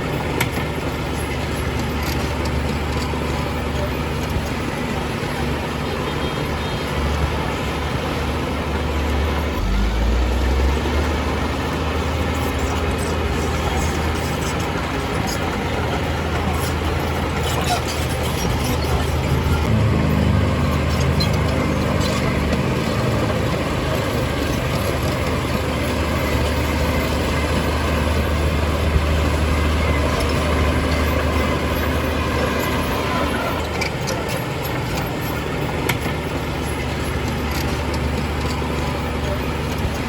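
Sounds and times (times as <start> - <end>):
heavy diesel engine droning: 0.0 - 40.0.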